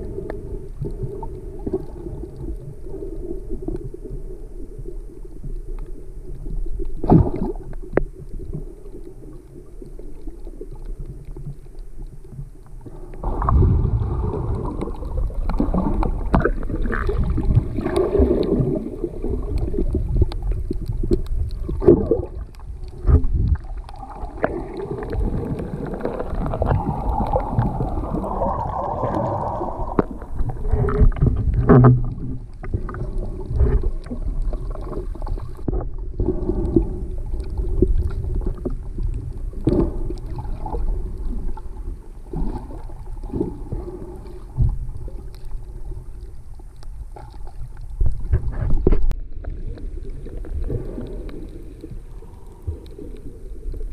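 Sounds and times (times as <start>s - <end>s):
muffled underwater rumble: 0.0s - 53.9s
underwater knocks and clicks: 0.1s - 53.9s.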